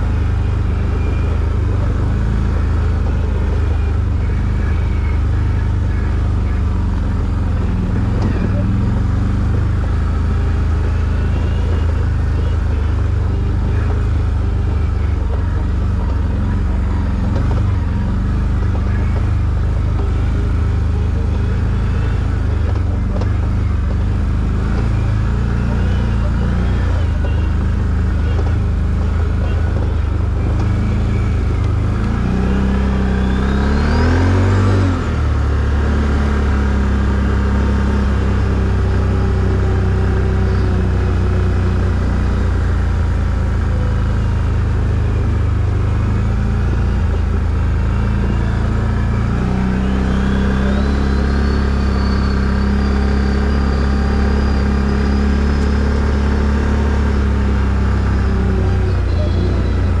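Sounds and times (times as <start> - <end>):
atv engine revving: 0.0 - 60.0.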